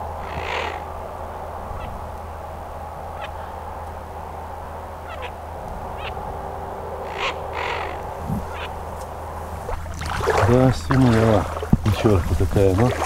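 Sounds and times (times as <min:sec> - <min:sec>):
ducks calling: 0:00.0 - 0:02.4, 0:03.0 - 0:13.0
rush of noise: 0:00.0 - 0:11.7
steady background noise: 0:00.0 - 0:13.0.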